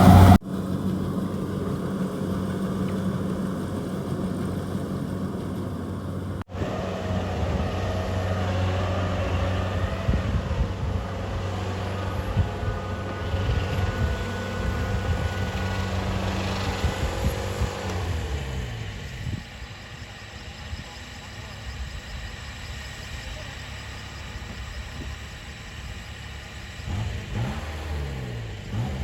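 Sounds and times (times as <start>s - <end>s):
machinery whine and clatter: 0.0s - 28.8s
diesel engine humming: 0.0s - 29.0s.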